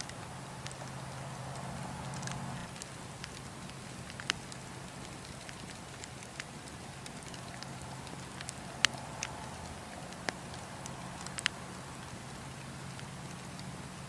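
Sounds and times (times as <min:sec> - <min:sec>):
fire crackling: 0:00.0 - 0:14.0.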